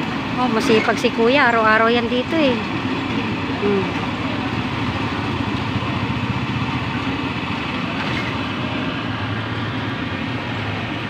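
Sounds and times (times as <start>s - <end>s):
street traffic: 0.0s - 11.0s
vehicle engine running: 0.0s - 11.0s.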